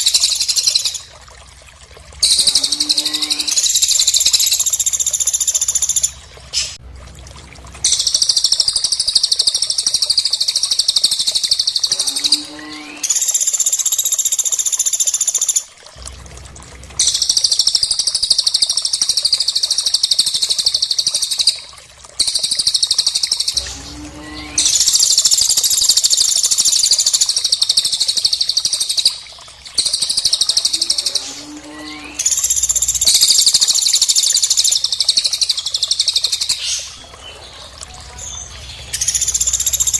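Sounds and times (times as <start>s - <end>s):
rapid trilling birdsong: 2.2s - 6.8s, 7.8s - 15.7s, 17.0s - 39.9s.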